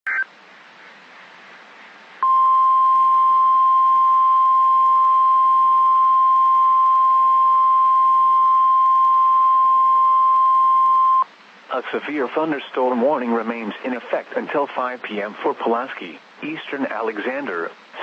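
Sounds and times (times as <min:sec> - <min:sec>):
faint radio hiss: 0:00.1 - 0:08.9, 0:10.5 - 0:18.0.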